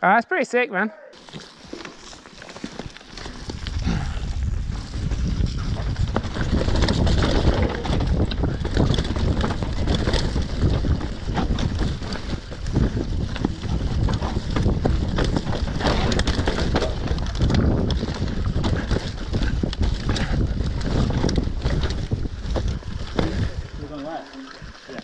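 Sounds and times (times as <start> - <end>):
bike clattering over bumps: 2.0 - 24.0
tyres rumbling on dirt: 2.5 - 24.1
wind buffeting microphone: 3.3 - 24.9.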